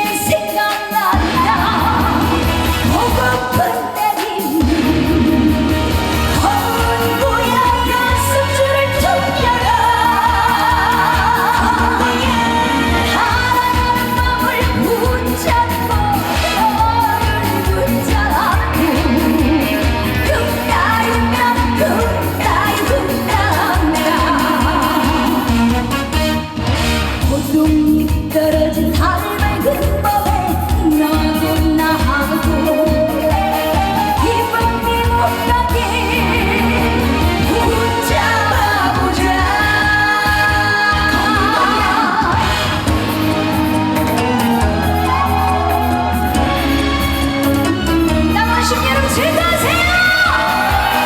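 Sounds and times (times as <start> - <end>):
live band with wavering lead melody: 0.0 - 51.0.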